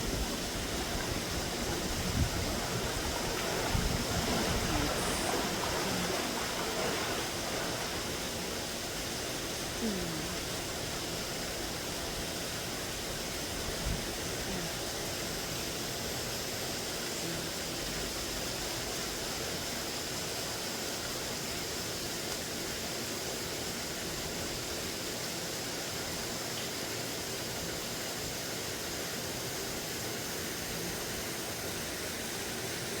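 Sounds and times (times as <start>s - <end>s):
falling rain hiss: 0.0s - 33.0s.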